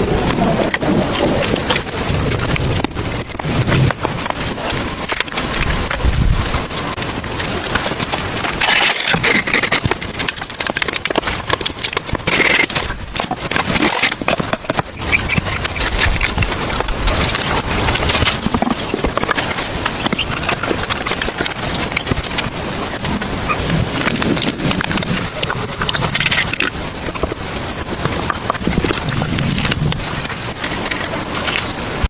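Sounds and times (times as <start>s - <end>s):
knocks clicks and scrapes: 0.0s - 32.0s.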